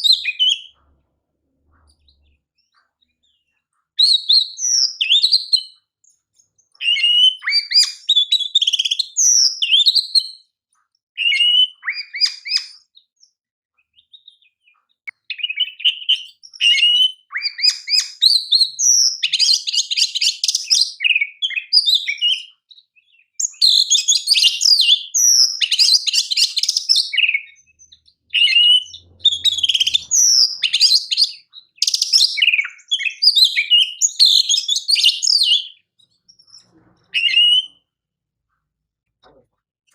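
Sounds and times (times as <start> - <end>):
songbird singing whistles and trills: 0.0 - 0.8, 1.8 - 10.5, 11.2 - 36.6, 37.2 - 37.9.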